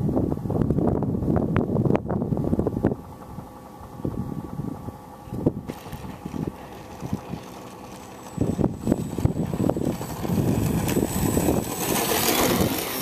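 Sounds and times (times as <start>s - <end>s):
faint high whine: 0.0s - 13.0s
wind buffeting microphone: 0.0s - 13.0s.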